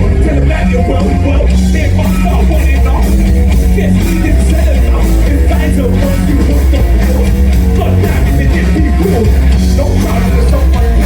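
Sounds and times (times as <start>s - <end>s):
punk band playing live: 0.0s - 11.0s.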